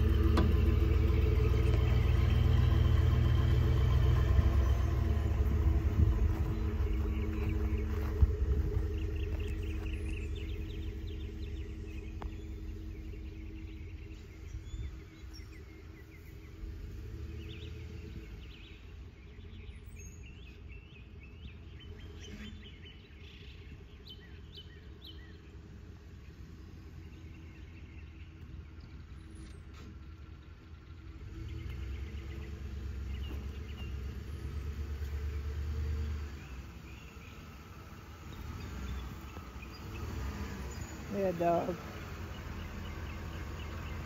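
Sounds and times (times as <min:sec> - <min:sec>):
low engine rumble: 0:00.0 - 0:44.0
small birds chirping: 0:00.0 - 0:44.0.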